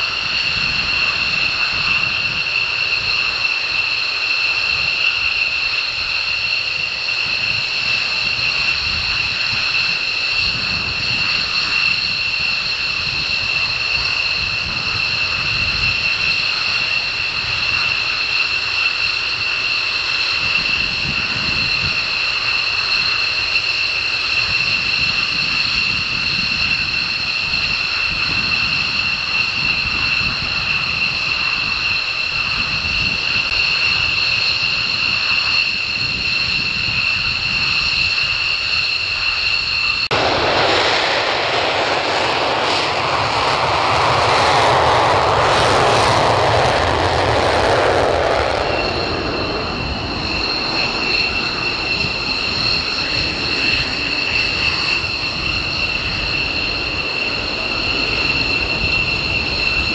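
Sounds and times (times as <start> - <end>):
jet afterburner roar: 0.0 - 59.9
jet engines whining at taxi power: 0.0 - 59.9.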